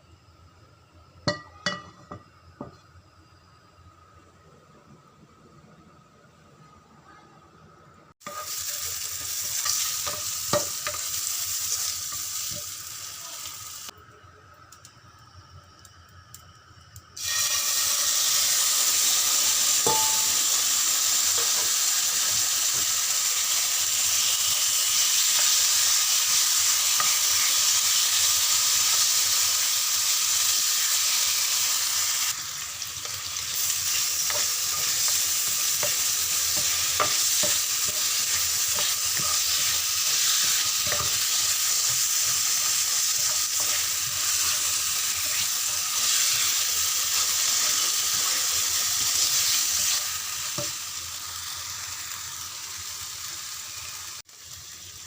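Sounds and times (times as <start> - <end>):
food sizzling in oil: 1.2 - 2.4, 8.2 - 14.0, 14.7 - 55.0.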